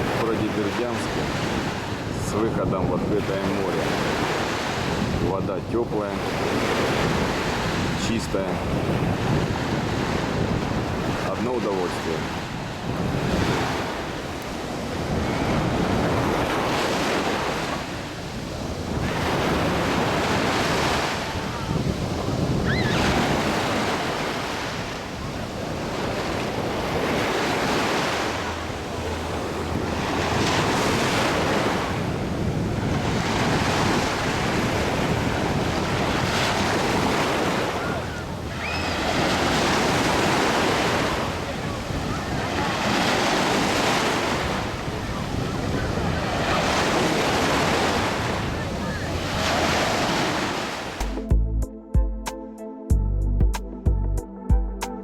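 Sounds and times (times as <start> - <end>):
sea waves washing ashore: 0.0 - 51.2
wind buffeting microphone: 0.0 - 51.4.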